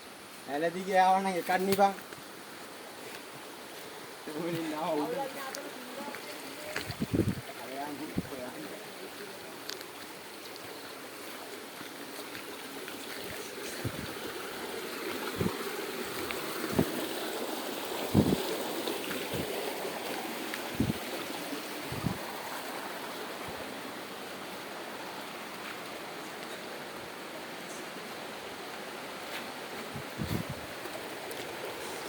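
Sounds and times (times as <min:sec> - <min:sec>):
stream water rushing: 0:00.0 - 0:32.0.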